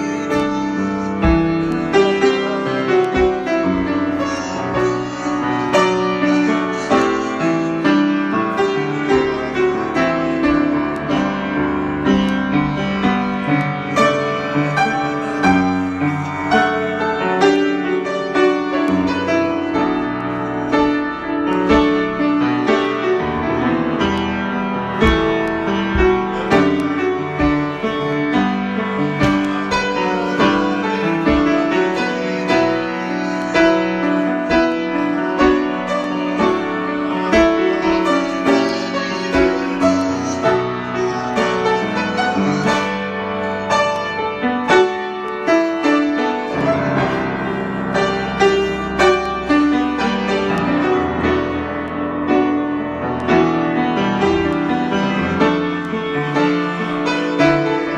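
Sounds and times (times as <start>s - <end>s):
solo piano improvisation: 0.0s - 57.9s.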